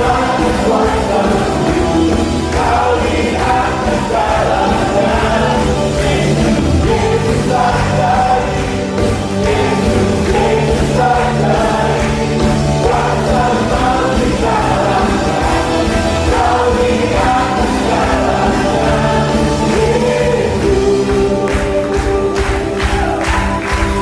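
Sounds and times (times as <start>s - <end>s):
choir singing in unison: 0.0s - 24.0s
instrumental accompaniment with beat: 0.0s - 24.0s.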